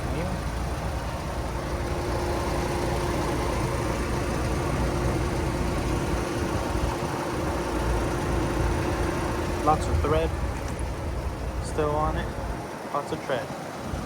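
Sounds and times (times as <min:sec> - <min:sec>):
vehicle engine idling hum: 0:00.0 - 0:14.0.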